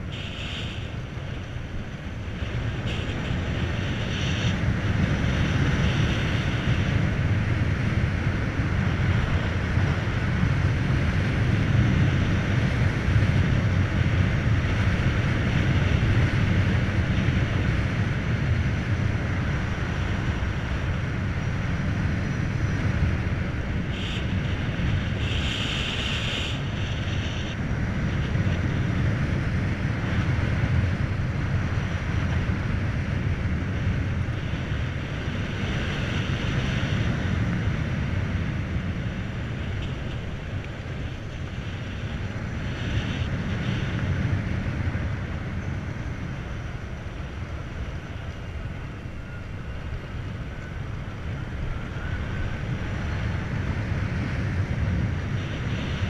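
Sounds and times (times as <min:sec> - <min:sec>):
tyre road noise: 0:00.0 - 0:56.0
wind rushing over microphone: 0:00.0 - 0:56.0.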